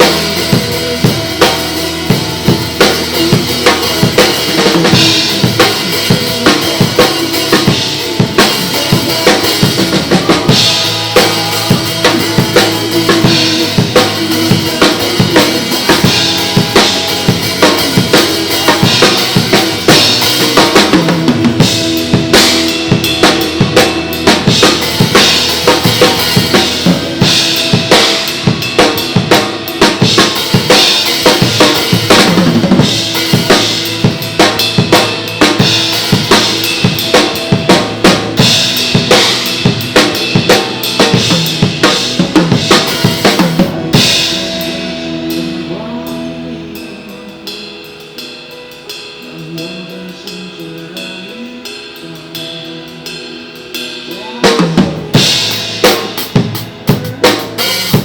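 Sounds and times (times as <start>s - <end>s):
backing track chords: 0.0s - 58.0s
drum kit beat: 0.0s - 58.0s.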